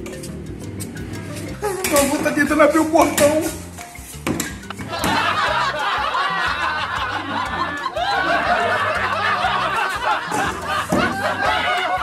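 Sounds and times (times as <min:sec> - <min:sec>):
background music with bass: 0:00.0 - 0:12.0.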